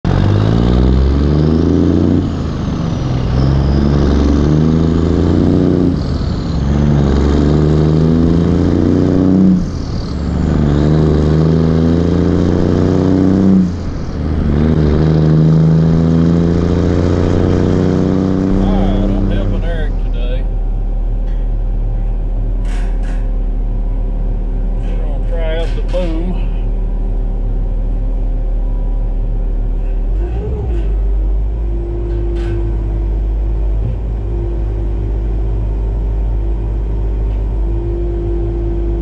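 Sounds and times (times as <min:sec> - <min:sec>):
diesel truck accelerating through gears: 0:00.0 - 0:39.0.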